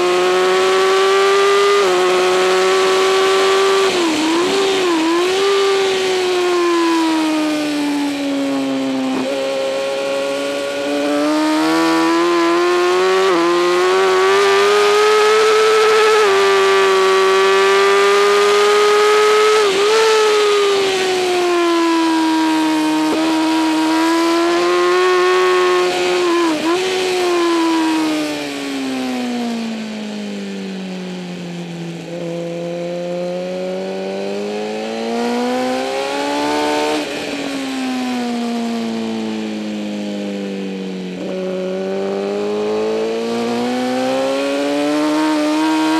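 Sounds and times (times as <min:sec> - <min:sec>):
motorcycle engine at racing speed: 0:00.0 - 0:45.9.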